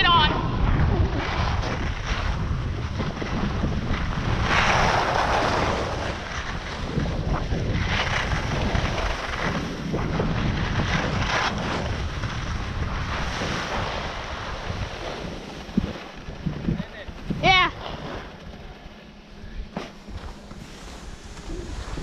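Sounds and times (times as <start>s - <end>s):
skis scraping on snow: 0.0s - 22.0s
wind buffeting microphone: 0.0s - 22.0s.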